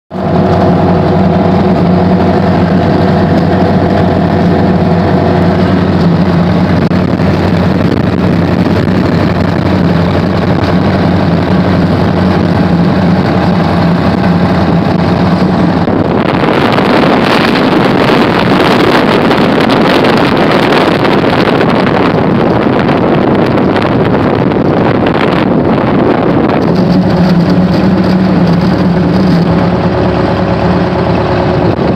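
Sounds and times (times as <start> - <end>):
propeller plane engine running: 0.1 - 31.9
wind noise on microphone: 0.1 - 31.9.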